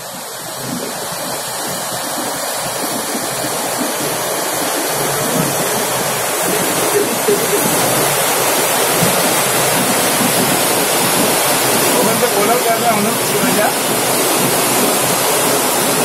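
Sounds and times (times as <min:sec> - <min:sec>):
rushing white water: 0:00.0 - 0:16.0.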